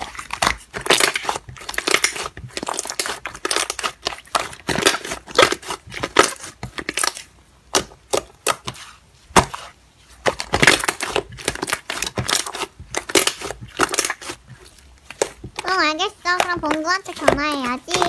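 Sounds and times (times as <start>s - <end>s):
slime popping and crackling: 0.0s - 18.0s.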